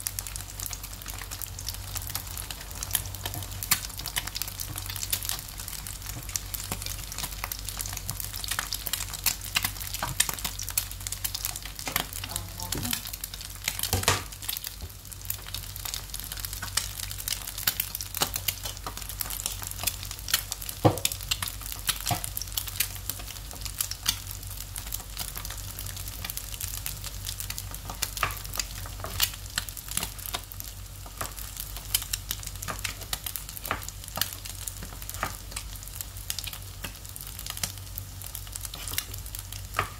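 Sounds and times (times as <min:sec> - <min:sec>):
egg sizzling in oil: 0:00.0 - 0:39.9.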